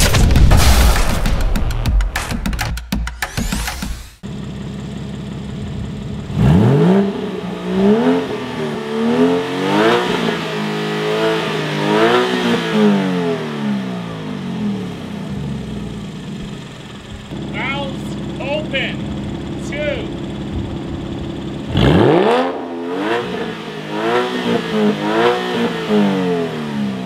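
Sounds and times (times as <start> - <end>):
car engine revving: 3.3 - 27.0.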